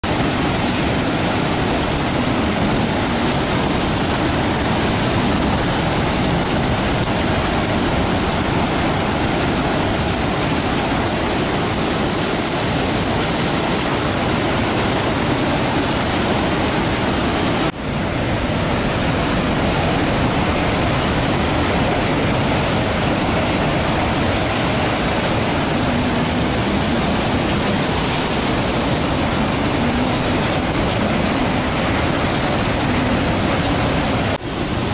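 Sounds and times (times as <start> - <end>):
surf rushing over rocks: 0.0 - 34.9.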